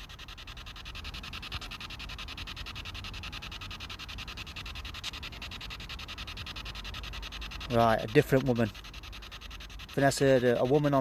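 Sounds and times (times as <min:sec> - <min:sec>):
radio static chopping hiss: 0:00.0 - 0:11.0.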